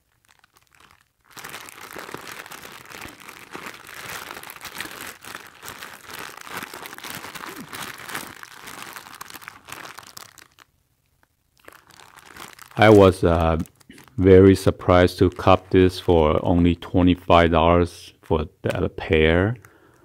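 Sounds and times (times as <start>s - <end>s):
plastic bags crinkling: 0.0s - 16.2s.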